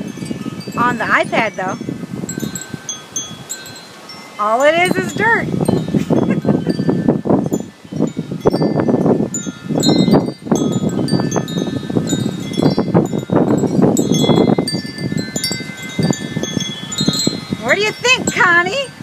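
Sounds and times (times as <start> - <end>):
wind buffeting microphone: 0.0 - 19.0
wind chimes ringing: 0.0 - 19.0.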